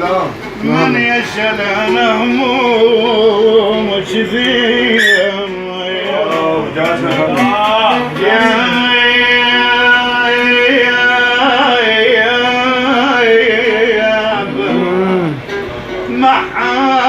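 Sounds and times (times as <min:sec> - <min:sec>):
man singing a long held note: 0:00.0 - 0:17.0.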